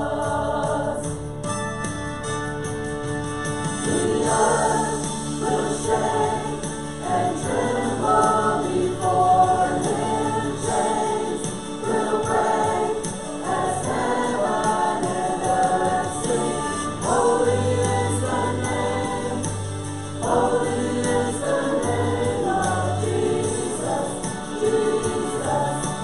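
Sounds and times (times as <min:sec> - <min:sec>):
group singing a hymn: 0:00.0 - 0:01.2, 0:03.8 - 0:26.0
instrumental accompaniment: 0:00.0 - 0:26.0.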